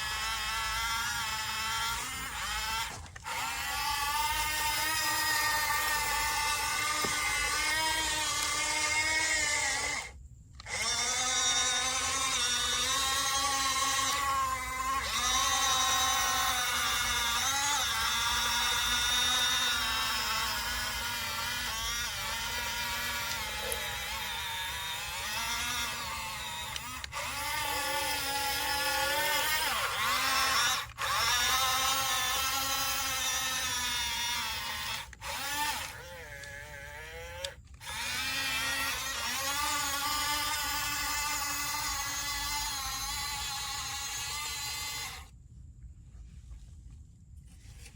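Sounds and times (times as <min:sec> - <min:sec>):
toy electric motors whining: 0:00.0 - 0:45.4.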